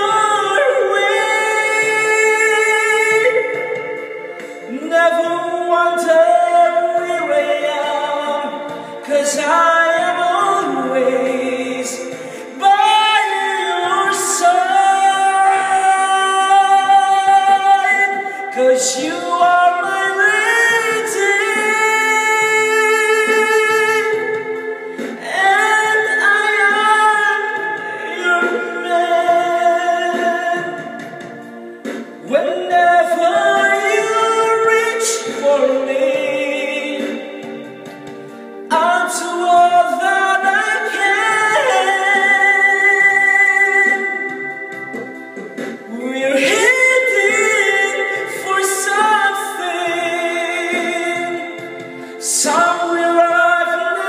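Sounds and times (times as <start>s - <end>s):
backing music: 0.0s - 54.0s
man singing into microphone: 0.0s - 54.0s.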